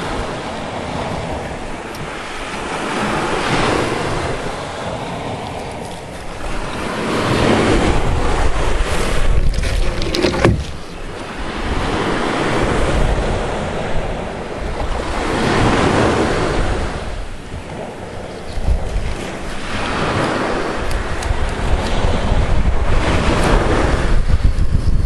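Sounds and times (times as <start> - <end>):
ocean surf breaking: 0.0 - 24.4
wind buffeting microphone: 0.0 - 25.0.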